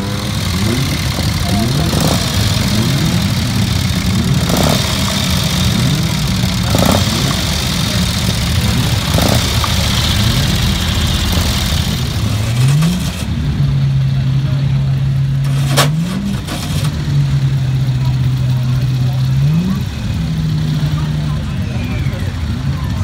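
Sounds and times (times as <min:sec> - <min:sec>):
racing car engines revving: 0:00.0 - 0:23.0.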